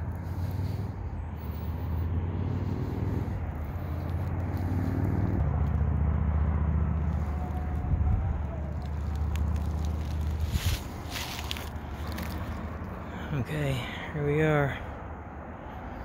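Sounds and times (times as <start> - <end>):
vehicle engine accelerating: 0.0 - 13.2
highway traffic rumble: 0.0 - 16.0.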